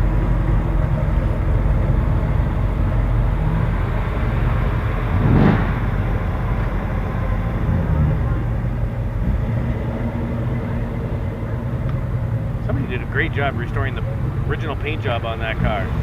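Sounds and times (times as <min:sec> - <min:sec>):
car engines rumbling: 0:00.0 - 0:16.0
car revving: 0:00.0 - 0:16.0.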